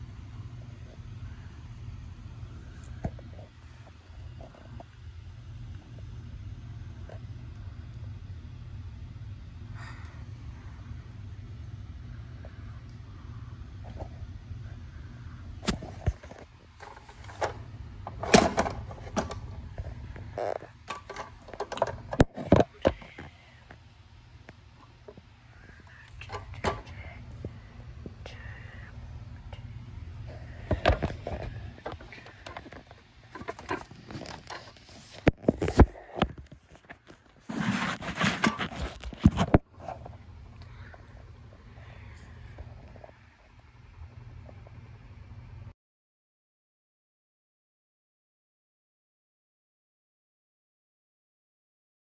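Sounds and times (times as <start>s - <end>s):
low steady hum: 0.0s - 45.7s.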